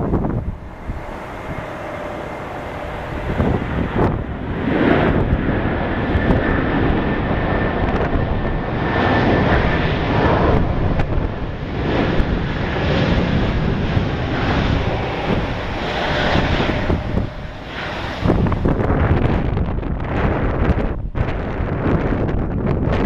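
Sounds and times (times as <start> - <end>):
thin steady whine: 0.0 - 21.2
jet engines running: 0.0 - 23.0
wind buffeting microphone: 0.0 - 23.0.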